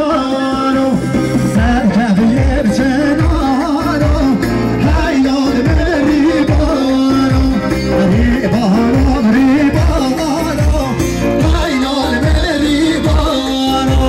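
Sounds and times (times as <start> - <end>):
ornamented folk melody: 0.0 - 14.0
steady drum beat: 0.9 - 14.0.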